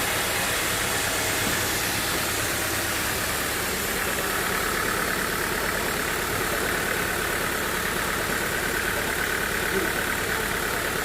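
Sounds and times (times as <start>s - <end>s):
sawmill machinery motor hum: 0.0s - 11.0s.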